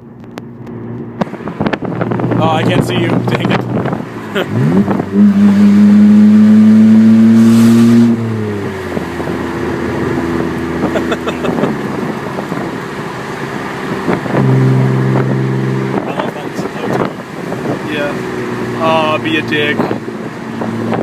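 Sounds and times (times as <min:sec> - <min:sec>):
loud car engine revving: 0:01.2 - 0:21.0.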